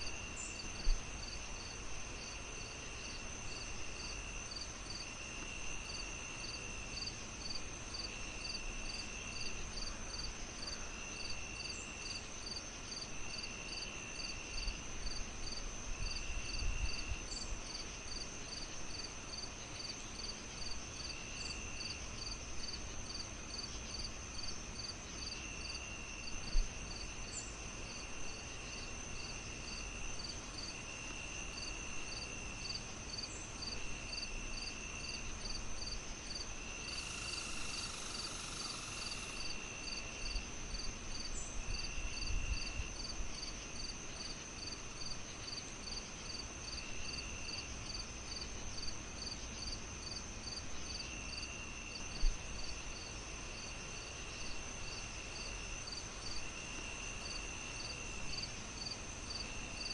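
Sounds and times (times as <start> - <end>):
crickets chirping: 0.0 - 59.9
insects trilling: 0.0 - 59.9.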